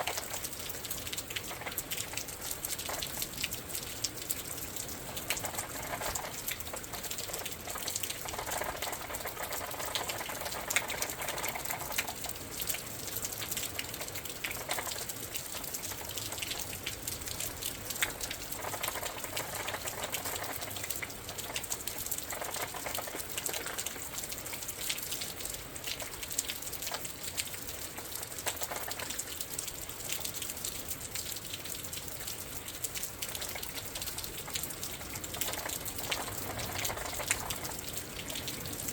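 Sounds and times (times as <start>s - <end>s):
raindrops pattering: 0.0s - 38.9s
wind gusts driving rain: 0.0s - 38.9s.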